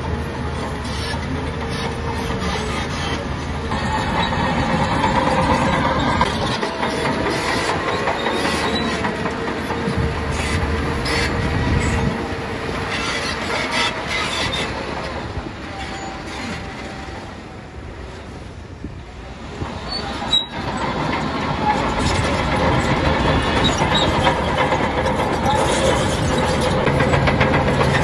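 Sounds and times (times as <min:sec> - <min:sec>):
bulldozer diesel engine: 0:00.0 - 0:28.0
steel tracks clanking and squealing: 0:00.0 - 0:28.0.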